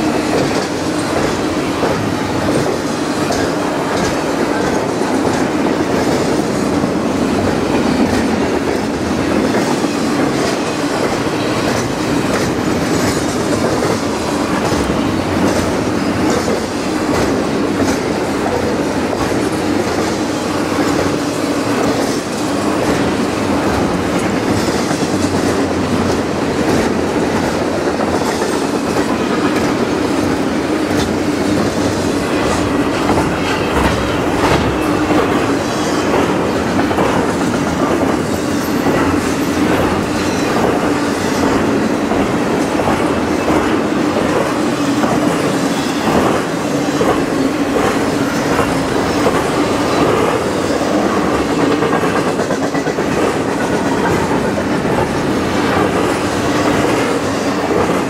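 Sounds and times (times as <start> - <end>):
clickety-clack of rail joints: 0.0 - 58.0
train wheels on rail: 0.0 - 58.0.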